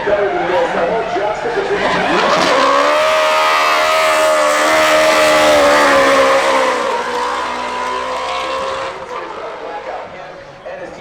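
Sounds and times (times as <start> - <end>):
race car engine at high revs: 1.5 - 10.4.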